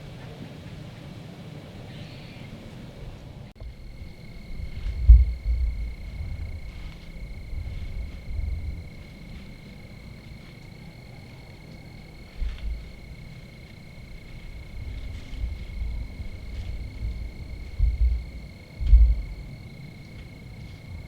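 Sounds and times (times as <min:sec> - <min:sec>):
low rumbling bumps: 0:03.6 - 0:21.0.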